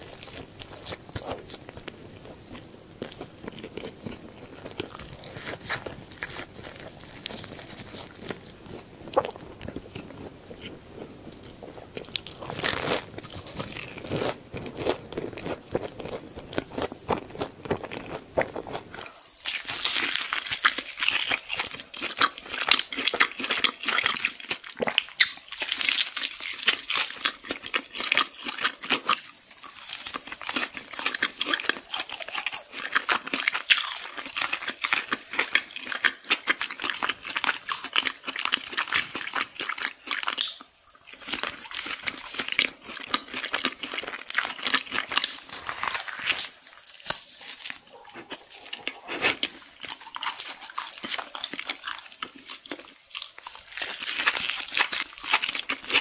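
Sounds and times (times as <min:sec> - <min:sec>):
crunchy food chewing: 0:00.0 - 0:56.0.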